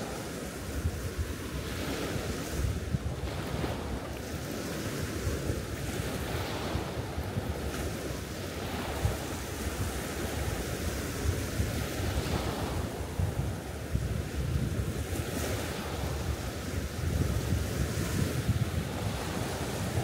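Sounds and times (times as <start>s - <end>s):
small waves washing up beach: 0.0s - 20.0s
wind buffeting microphone: 0.0s - 20.0s.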